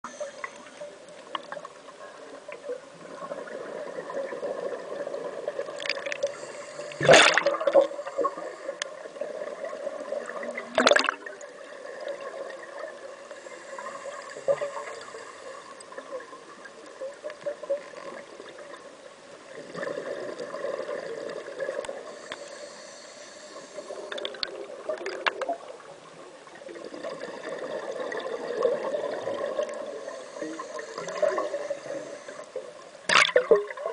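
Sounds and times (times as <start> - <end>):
underwater air bubbles gurgling: 0.1 - 33.9.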